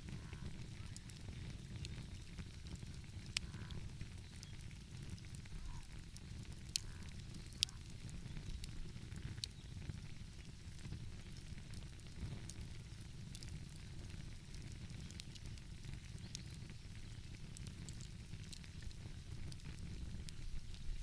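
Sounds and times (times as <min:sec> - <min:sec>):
sharp fire pops: 0:00.0 - 0:21.0
wood fire crackling: 0:00.0 - 0:21.0.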